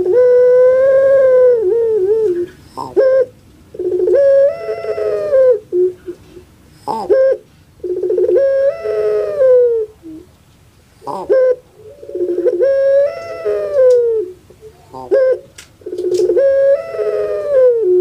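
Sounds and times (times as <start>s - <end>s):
dove cooing: 0.0s - 10.3s, 11.0s - 18.0s.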